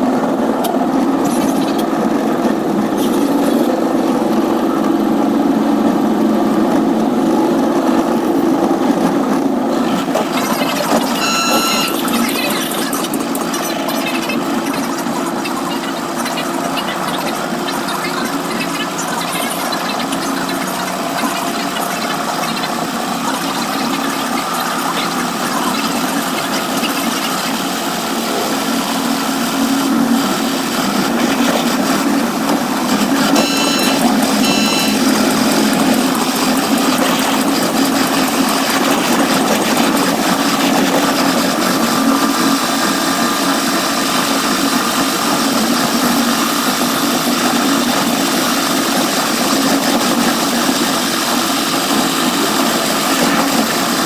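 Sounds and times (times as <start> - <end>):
train rolling and engine rumble: 0.0 - 54.0.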